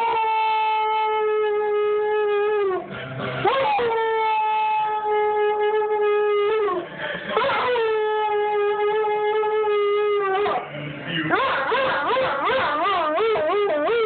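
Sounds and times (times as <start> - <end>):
dog howling: 0.0 - 10.6, 11.3 - 14.0.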